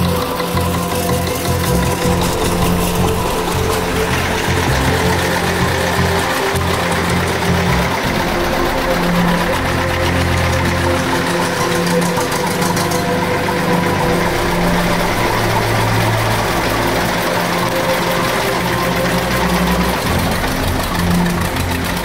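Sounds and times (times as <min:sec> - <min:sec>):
tractor engines chugging: 0:00.0 - 0:22.0.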